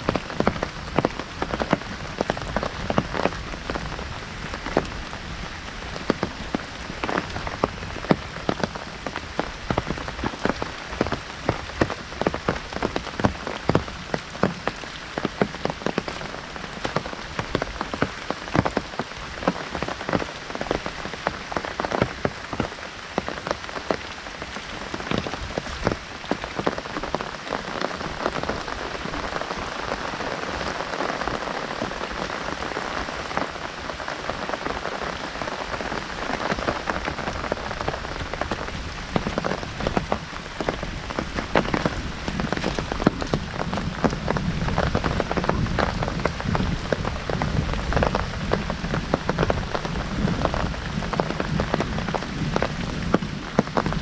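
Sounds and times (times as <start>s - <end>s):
heavy rain drumming on umbrella: 0.0s - 54.0s
rain hissing all around: 0.0s - 54.0s.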